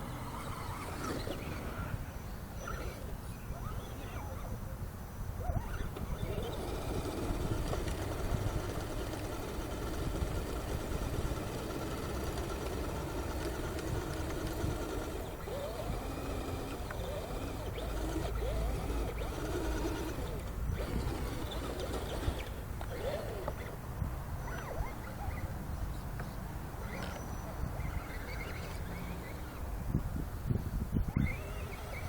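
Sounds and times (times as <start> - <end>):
electric motor and gears whining: 5.6 - 25.6, 26.2 - 32.0.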